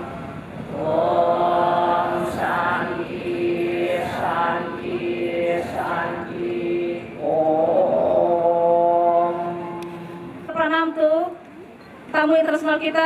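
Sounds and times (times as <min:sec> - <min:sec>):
crowd chanting a mantra: 0:00.0 - 0:10.5.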